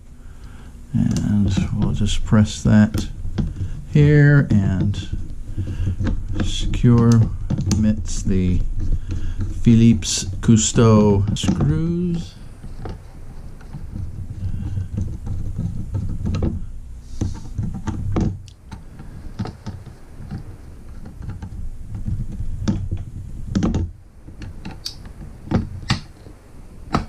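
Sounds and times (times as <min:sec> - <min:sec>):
handling rumble: 0:00.0 - 0:27.0.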